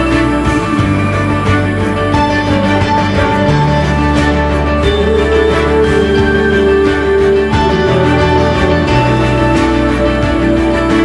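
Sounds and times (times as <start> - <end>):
instrumental music with held notes: 0.0 - 11.0
steady low bass: 0.0 - 11.0.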